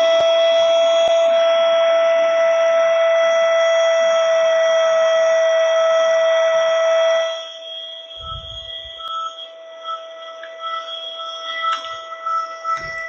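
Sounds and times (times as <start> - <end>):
vacuum motor whine: 0.0 - 13.0.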